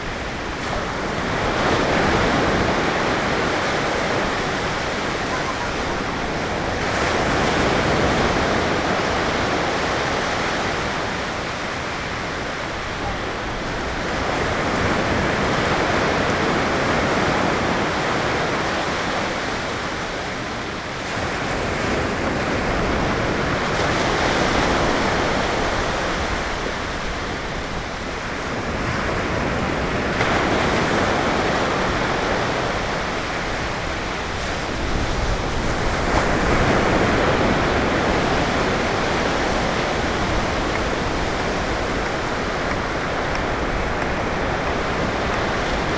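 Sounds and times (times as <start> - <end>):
ocean waves breaking: 0.0 - 45.9.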